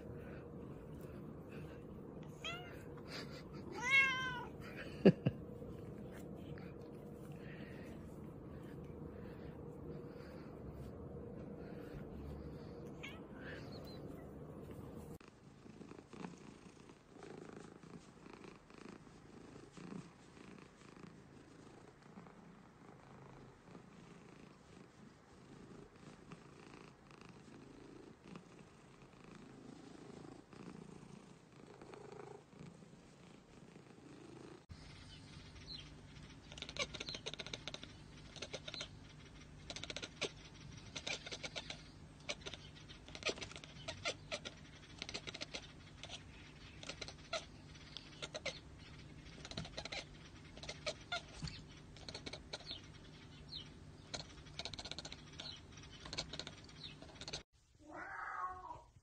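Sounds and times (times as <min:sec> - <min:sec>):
low steady hum: 0:00.0 - 0:31.5, 0:34.7 - 0:59.0
cat purring softly: 0:00.0 - 0:57.4.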